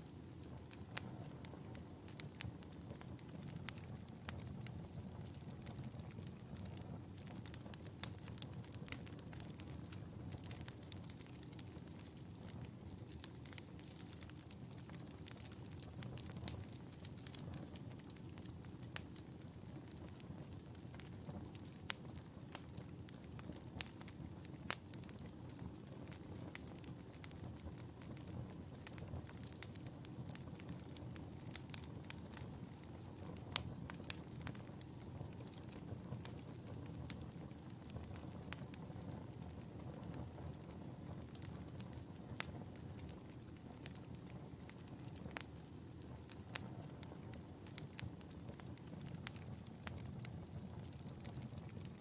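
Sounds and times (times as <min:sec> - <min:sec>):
fire crackling and popping: 0:00.0 - 0:52.0
low rumble of burning fire: 0:00.0 - 0:52.0.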